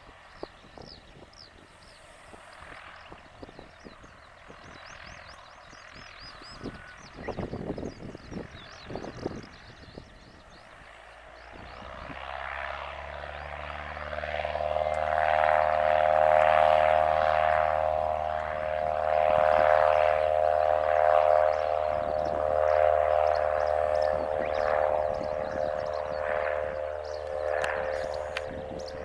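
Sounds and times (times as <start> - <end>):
small plane engine drone: 0.0 - 29.0.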